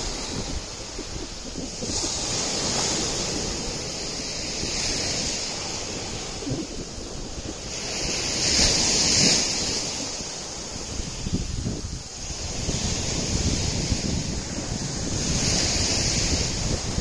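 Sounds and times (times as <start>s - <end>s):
waves washing up pebble beach: 0.0s - 17.0s
wind buffeting microphone: 0.0s - 17.0s.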